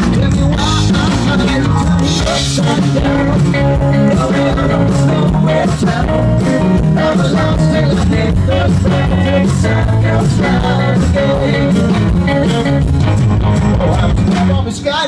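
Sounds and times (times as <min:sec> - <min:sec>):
steady drum beat: 0:00.0 - 0:14.8
rock band guitars: 0:00.0 - 0:15.0.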